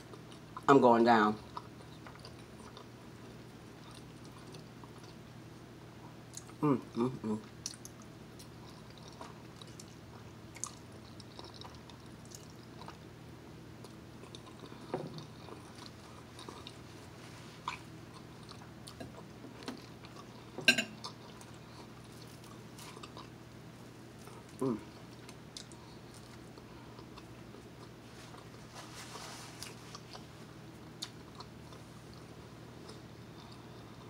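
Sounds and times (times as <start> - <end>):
faint steady hum: 0.0 - 34.0
quiet chewing: 1.4 - 5.2, 7.4 - 13.1, 13.8 - 34.0.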